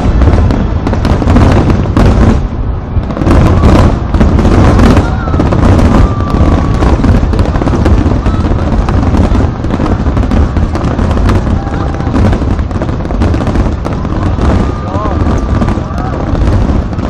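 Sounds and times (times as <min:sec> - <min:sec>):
fireworks bursts and crackling: 0:00.0 - 0:17.0.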